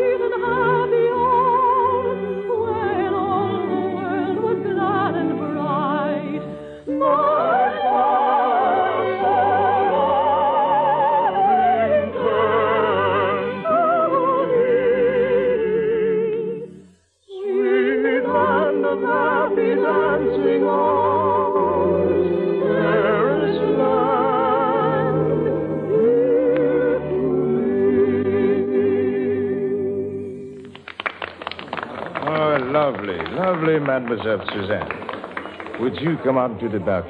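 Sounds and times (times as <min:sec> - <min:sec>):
operatic singing: 0:00.0 - 0:30.8
orchestral music: 0:00.0 - 0:30.8.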